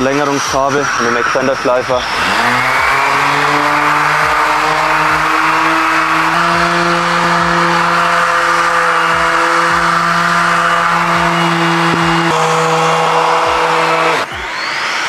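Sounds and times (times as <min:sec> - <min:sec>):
dust extractor vacuum: 0:00.0 - 0:15.0
orbital sander on wood: 0:00.0 - 0:15.0.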